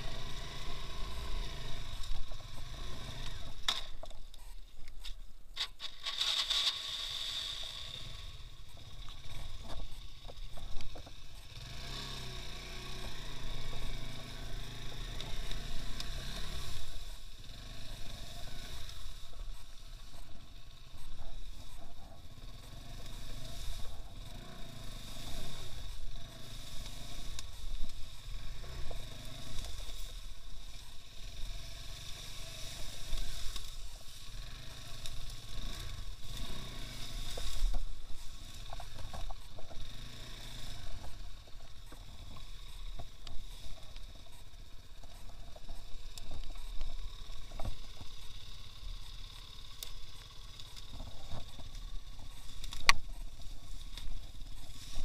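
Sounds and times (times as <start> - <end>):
motorcycle engine surging: 0.0 - 4.2, 5.6 - 55.0.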